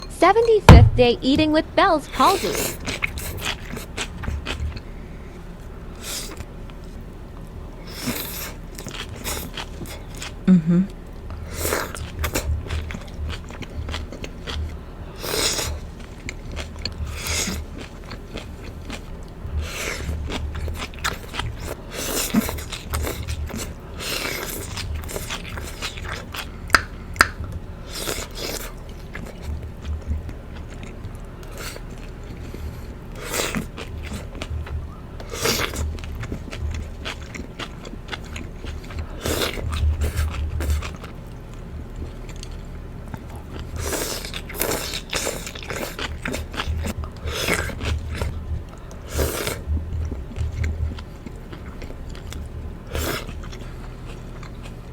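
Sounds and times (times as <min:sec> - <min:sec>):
person chewing and biting: 0:02.3 - 0:05.0, 0:07.8 - 0:10.5, 0:11.1 - 0:54.9.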